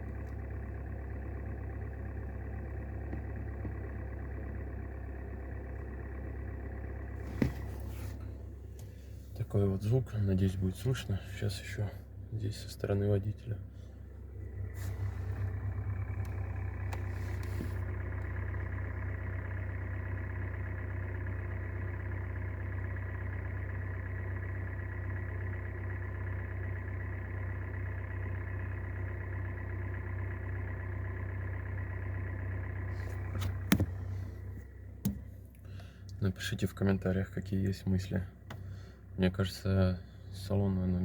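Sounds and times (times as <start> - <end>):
car engine idling with grinding: 0.0 - 41.0.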